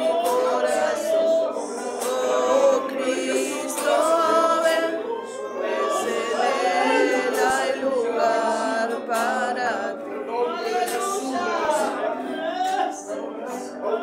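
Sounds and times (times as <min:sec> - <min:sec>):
congregation singing unaccompanied: 0:00.0 - 0:14.0.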